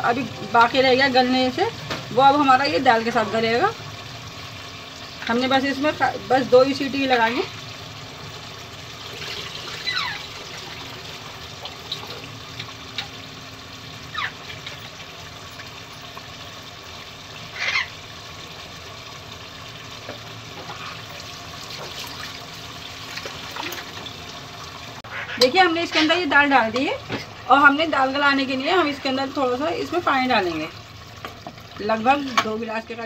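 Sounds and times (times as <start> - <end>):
meat sizzling and bubbling: 0.0 - 33.0.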